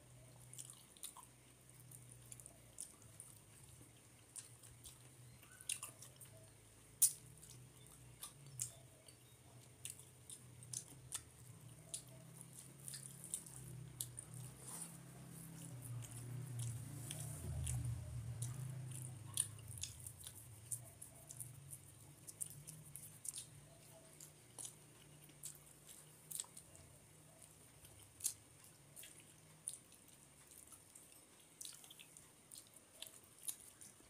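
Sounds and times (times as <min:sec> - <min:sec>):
chewing: 0:00.1 - 0:34.0.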